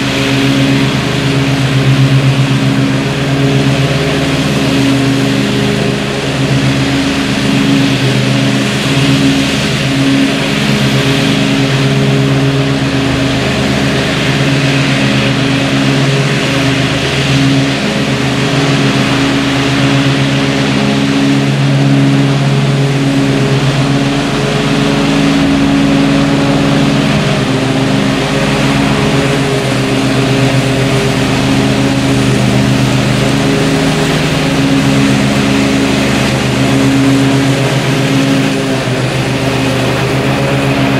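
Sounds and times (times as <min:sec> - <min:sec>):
riding mower engine droning: 0:00.0 - 0:40.9.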